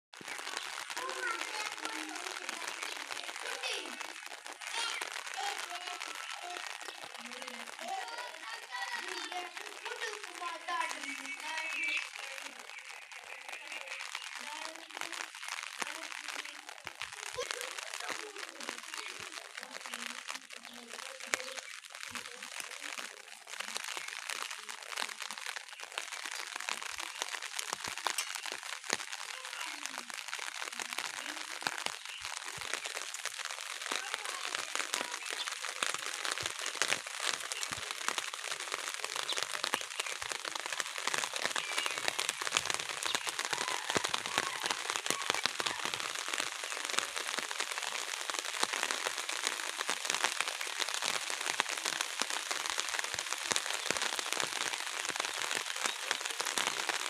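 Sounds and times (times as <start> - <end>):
heavy rain falling: 0.1 - 57.0.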